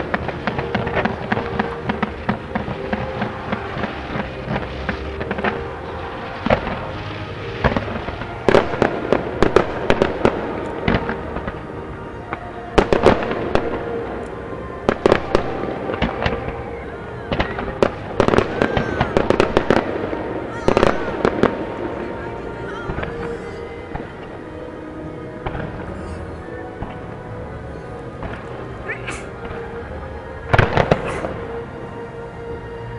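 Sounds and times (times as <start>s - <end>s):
fireworks bangs: 0.0s - 27.3s, 28.1s - 29.8s, 30.5s - 31.6s.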